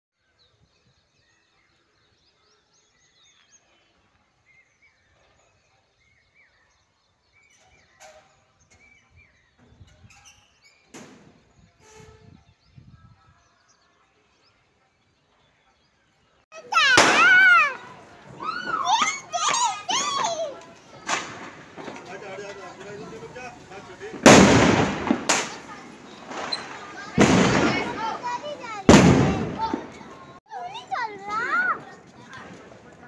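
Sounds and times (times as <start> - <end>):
birds chirping: 0.2 - 33.0.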